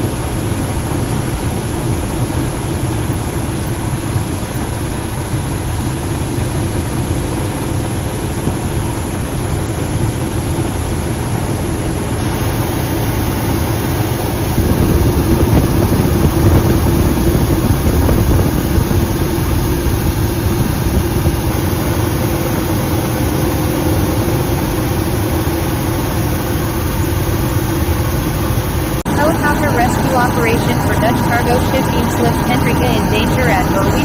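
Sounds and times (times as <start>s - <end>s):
helicopter engine and rotor noise: 0.0s - 34.0s.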